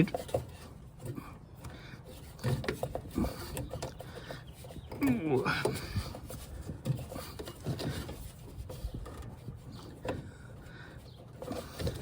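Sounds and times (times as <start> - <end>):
soft handling knocks and clicks: 0.0 - 12.0.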